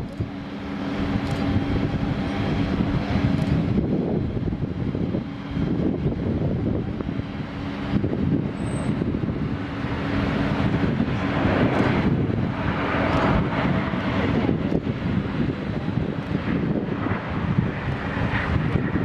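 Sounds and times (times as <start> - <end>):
jet engine rush with low drone: 0.0 - 19.0.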